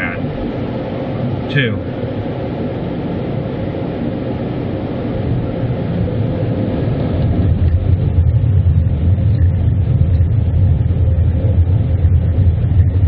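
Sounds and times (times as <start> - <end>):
car wash equipment rumbling: 0.0 - 13.0.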